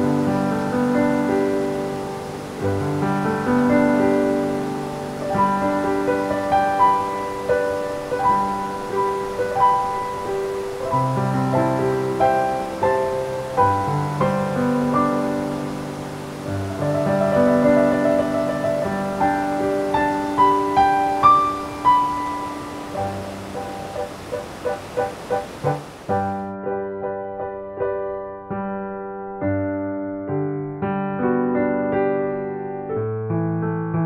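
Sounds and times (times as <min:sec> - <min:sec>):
slow gentle piano music: 0:00.0 - 0:34.0.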